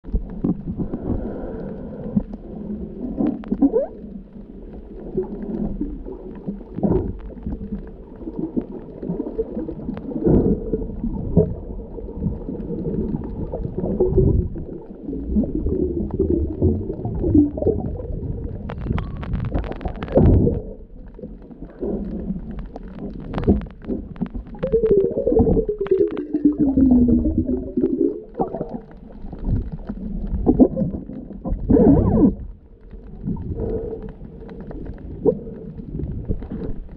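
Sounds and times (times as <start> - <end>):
muffled underwater rumble: 0.0 - 36.9.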